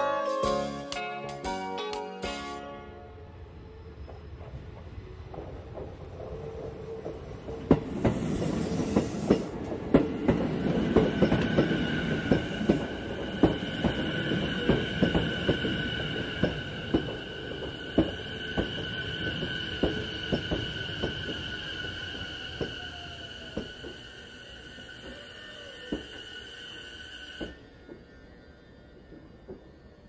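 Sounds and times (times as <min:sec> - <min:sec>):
train rumble: 0:02.9 - 0:30.0.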